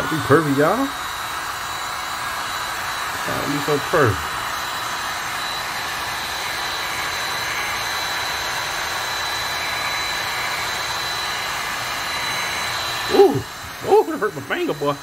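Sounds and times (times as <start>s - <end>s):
heat gun blowing hot air: 0.0s - 15.0s
thin steady whine: 0.0s - 15.0s.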